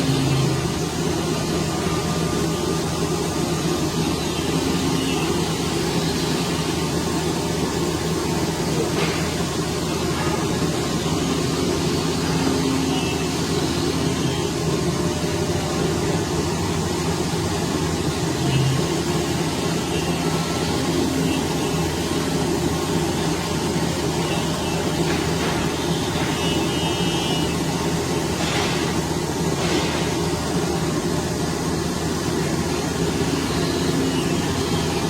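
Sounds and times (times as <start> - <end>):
workshop machinery humming: 0.0 - 35.0.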